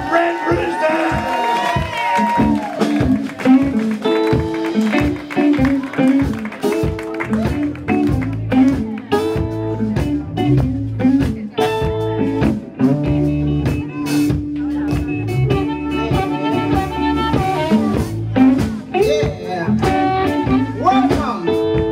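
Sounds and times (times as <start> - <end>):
bass guitar: 0.0 - 21.9
electric guitars playing blues: 0.0 - 21.9.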